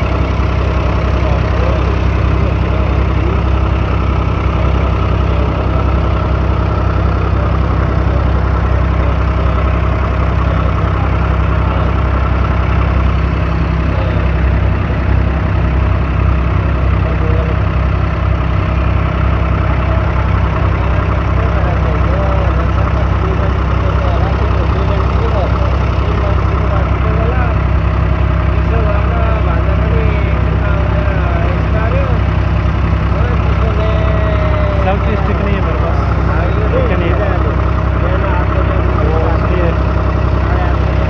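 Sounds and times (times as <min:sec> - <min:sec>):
boat diesel engine humming: 0:00.0 - 0:41.0.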